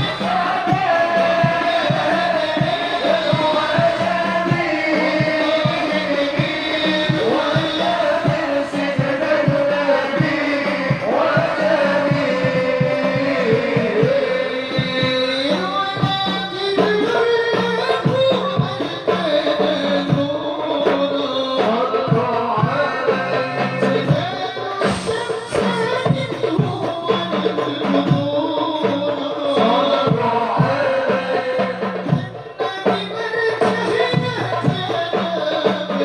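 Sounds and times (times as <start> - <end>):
group of voices singing: 0.0 - 36.0
hand drums beating: 0.0 - 36.0.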